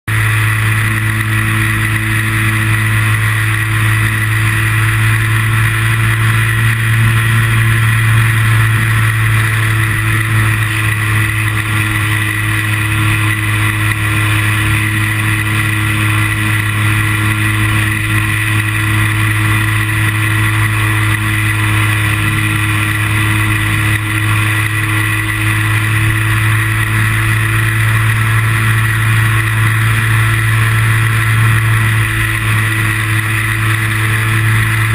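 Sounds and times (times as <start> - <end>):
model airplane motor droning: 0.1 - 34.9.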